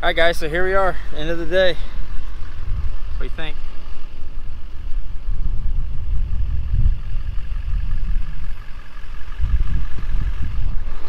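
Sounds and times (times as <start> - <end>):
faint steady hum: 0.0 - 11.0
wind buffeting microphone: 0.0 - 11.0.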